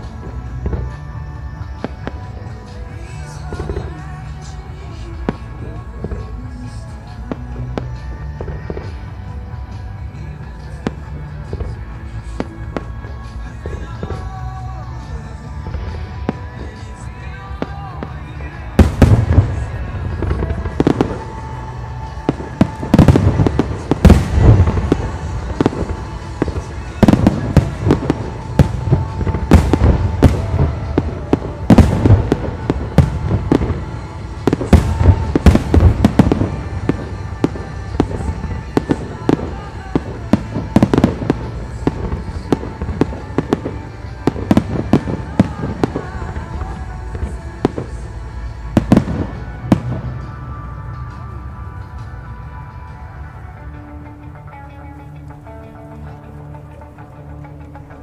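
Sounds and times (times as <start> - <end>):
fireworks bursting with sharp bangs: 0.0 - 53.4.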